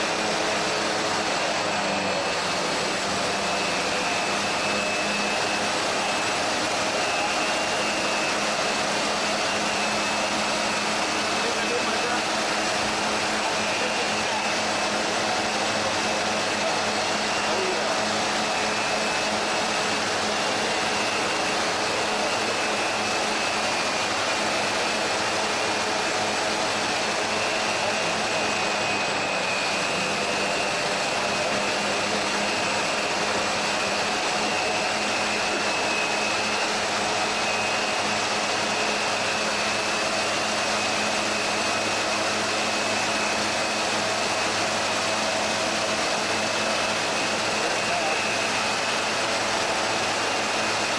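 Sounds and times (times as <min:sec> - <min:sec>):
foam generator blower rushing: 0:00.0 - 0:50.9.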